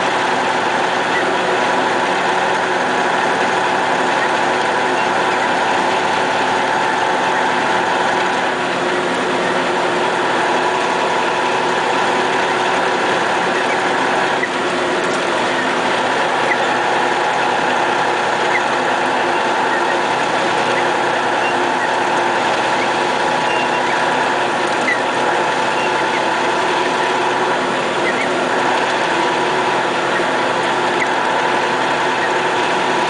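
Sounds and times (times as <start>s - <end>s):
diesel truck engine running: 0.0s - 33.0s
road noise rumble: 0.0s - 33.0s.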